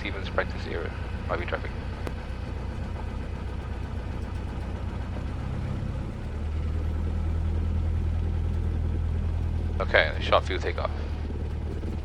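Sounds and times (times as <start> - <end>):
propeller engine running: 0.0 - 12.0.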